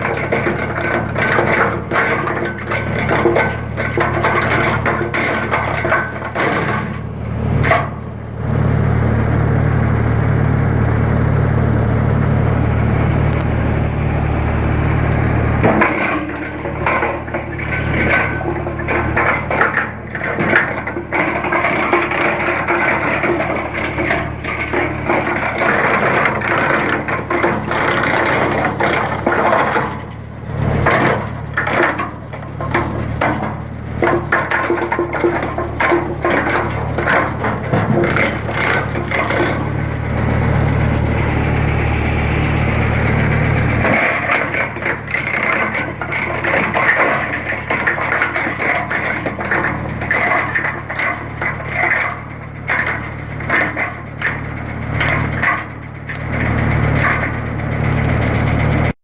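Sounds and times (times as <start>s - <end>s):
wood chipper droning: 0.0s - 59.0s.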